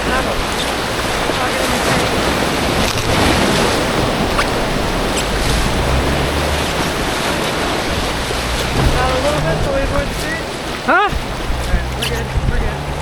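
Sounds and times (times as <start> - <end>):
creek whitewater rushing: 0.0 - 13.0
wind rumbling on microphone: 0.0 - 13.0.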